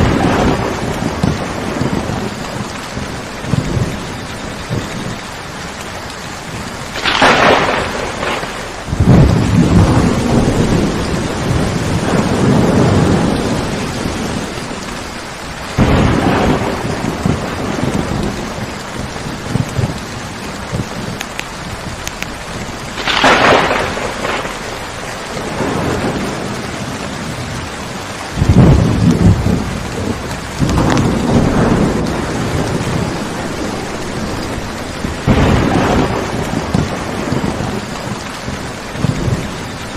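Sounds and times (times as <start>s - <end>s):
steady rain: 0.0s - 39.9s
thunder cracks and rumbling: 0.0s - 39.9s.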